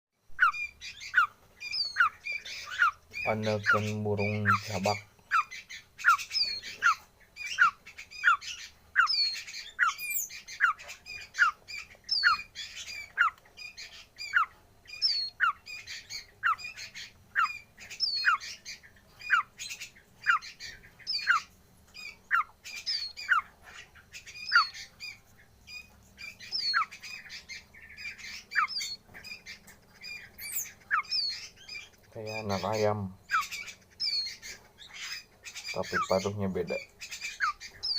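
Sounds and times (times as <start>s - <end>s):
bird chick peeping: 0.2s - 37.9s.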